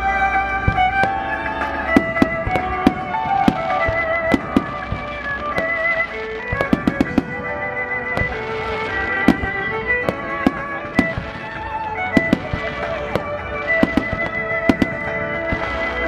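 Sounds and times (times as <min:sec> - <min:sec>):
fireworks bursting with sharp bangs: 0:00.0 - 0:16.0
melodic music with held tones: 0:00.0 - 0:16.0.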